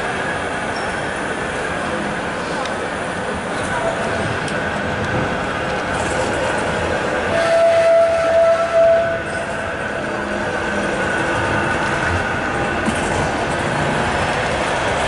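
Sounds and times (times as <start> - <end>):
tram wheels rumbling on rail: 0.0 - 15.0.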